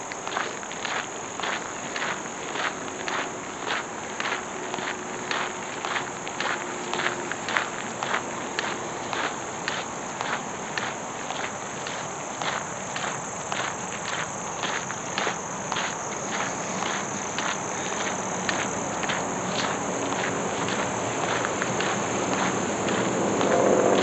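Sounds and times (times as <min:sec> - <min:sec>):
footsteps: 0:00.0 - 0:24.0
insects chorus: 0:00.0 - 0:24.0.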